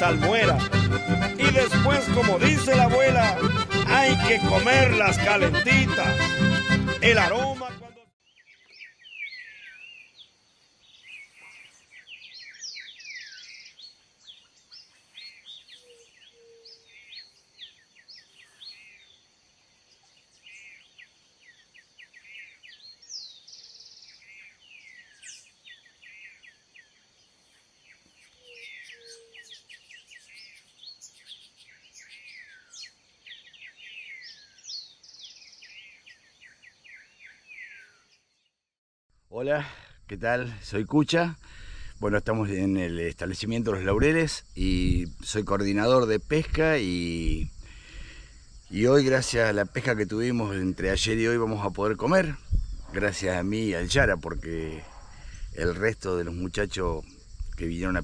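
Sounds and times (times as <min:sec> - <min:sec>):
birds singing and chattering: 0:08.2 - 0:38.6, 0:40.2 - 0:58.0.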